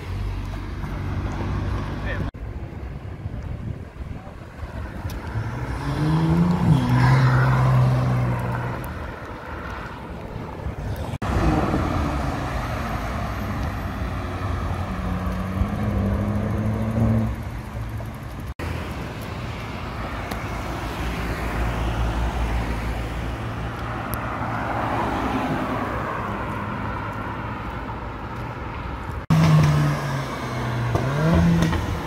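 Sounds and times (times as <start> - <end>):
road traffic: 0.0 - 32.0.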